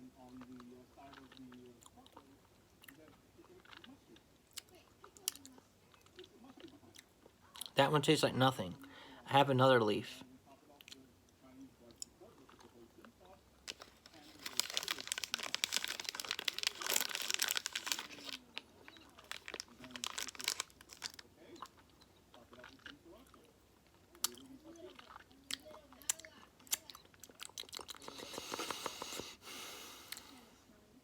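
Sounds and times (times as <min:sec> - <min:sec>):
chewing gummy snack: 0:00.2 - 0:07.8, 0:11.9 - 0:29.4.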